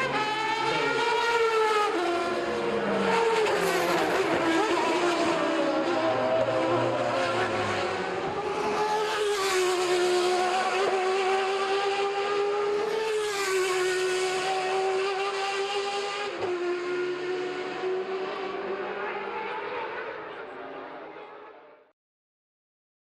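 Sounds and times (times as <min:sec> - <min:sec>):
race car engines at high revs: 0:00.0 - 0:21.7.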